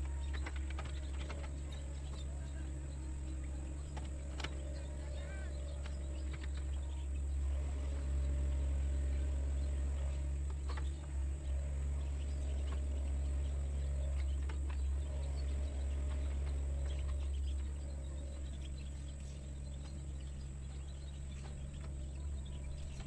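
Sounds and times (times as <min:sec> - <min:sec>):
excavator diesel engine humming: 0:00.0 - 0:23.0.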